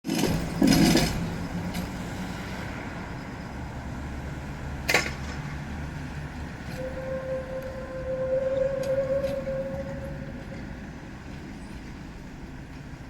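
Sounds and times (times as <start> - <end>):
loud rush of passing tram: 0.0 - 13.0
low vehicle rumble: 0.3 - 13.0.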